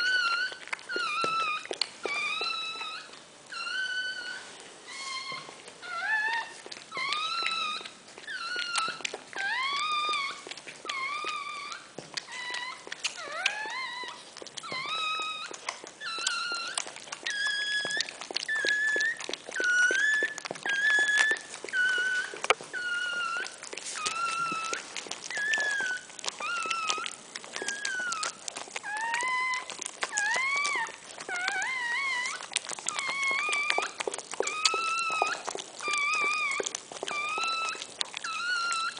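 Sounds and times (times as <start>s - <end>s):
puppy crying high squeals: 0.0s - 38.9s.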